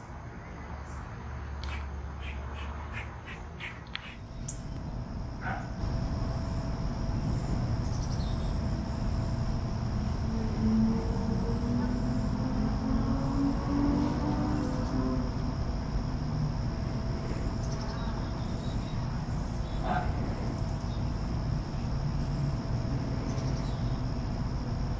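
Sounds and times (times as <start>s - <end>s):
high-pitched insect drone: 1.6s - 24.9s.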